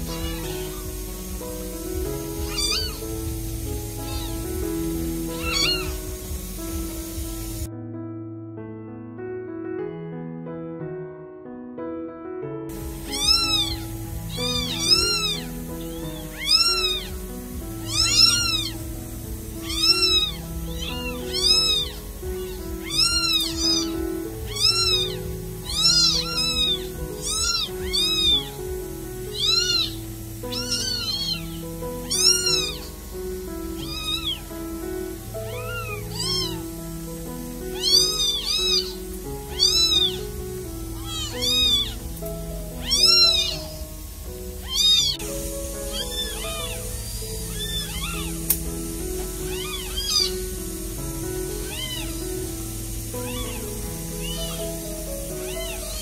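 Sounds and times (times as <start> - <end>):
kittens mewing: 0.0 - 7.7, 12.7 - 56.0
soft background music: 0.0 - 56.0.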